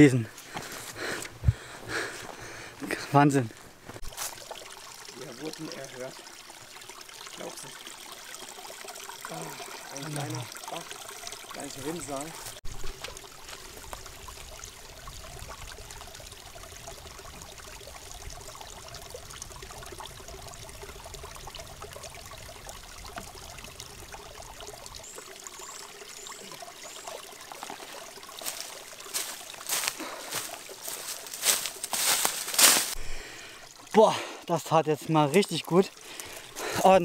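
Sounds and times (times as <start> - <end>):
spring water trickling: 0.0 - 37.0
water pouring into bottle: 4.0 - 34.4.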